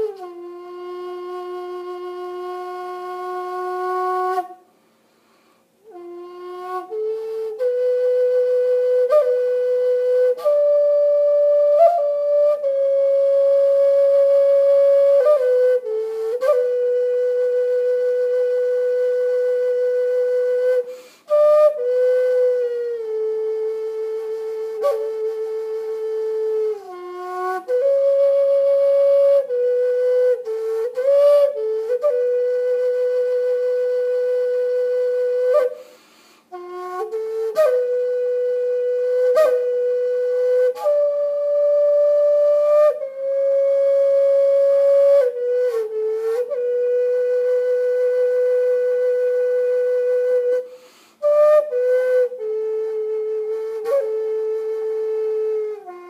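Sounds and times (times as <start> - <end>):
solo flute melody: 0.0 - 56.0.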